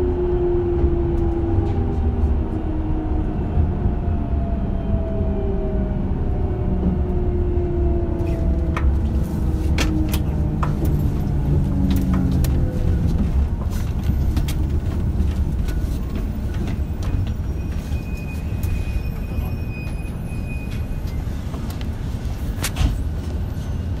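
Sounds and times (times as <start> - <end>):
electric train humming: 0.0 - 23.4.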